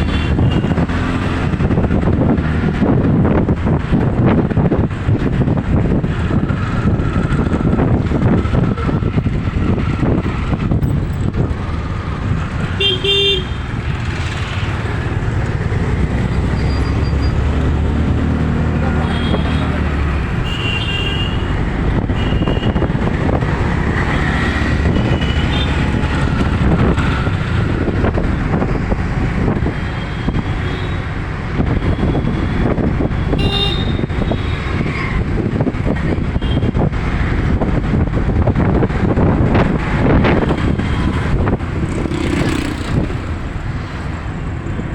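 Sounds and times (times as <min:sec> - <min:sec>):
road traffic din: 0:00.0 - 0:44.9.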